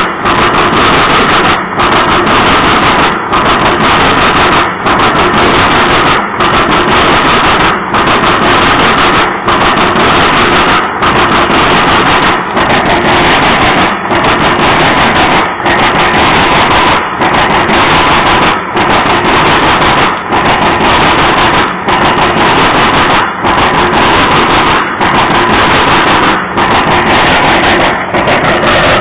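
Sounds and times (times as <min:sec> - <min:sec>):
freight train wheels rumbling on rail: 0:00.0 - 0:29.0.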